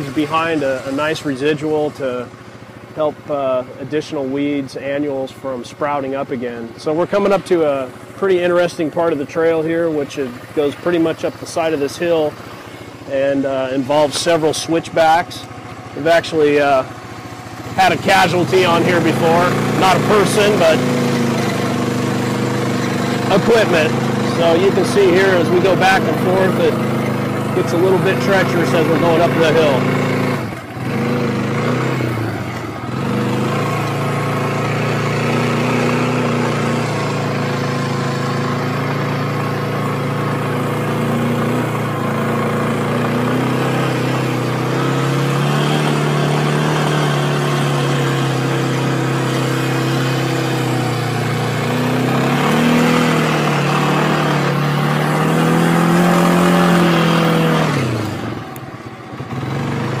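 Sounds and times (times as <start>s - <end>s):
small engine under load: 0.0s - 60.0s.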